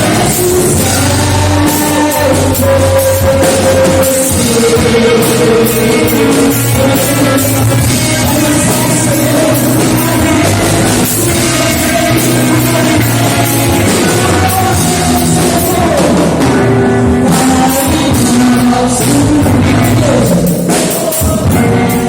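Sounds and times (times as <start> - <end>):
live worship band: 0.0 - 22.0
person singing: 0.0 - 22.0.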